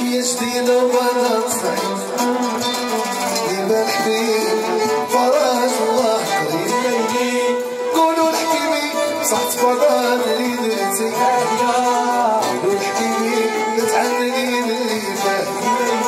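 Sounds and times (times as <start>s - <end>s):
man singing into microphone: 0.0s - 16.0s
violins and keyboard band: 0.0s - 16.0s.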